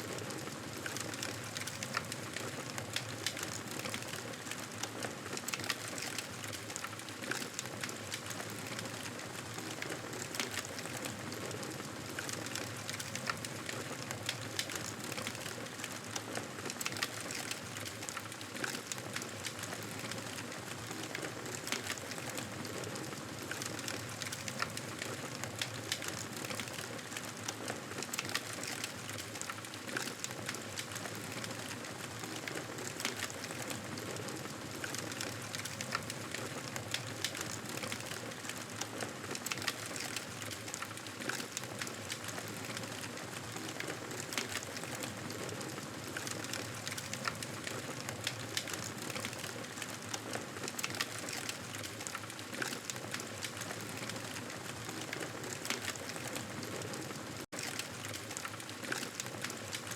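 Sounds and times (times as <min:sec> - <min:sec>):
wood fire crackling: 0:00.1 - 0:59.9.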